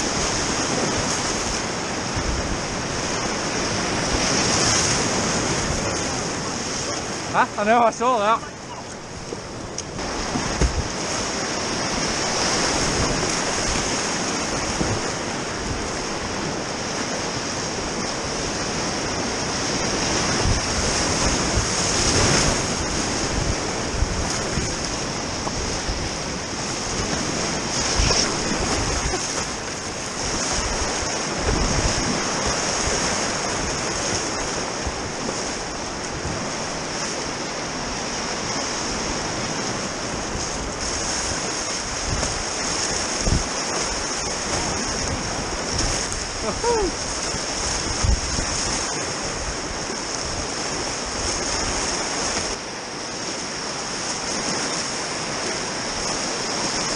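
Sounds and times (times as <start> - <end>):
whitewater rapids rushing: 0.0 - 56.9
paddle splashes and knocks: 8.7 - 56.9.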